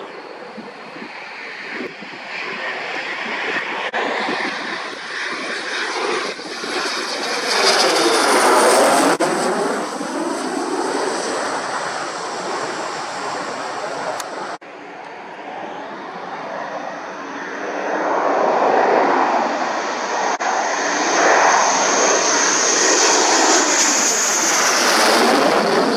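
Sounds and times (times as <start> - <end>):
jet passing low overhead: 0.0 - 25.9.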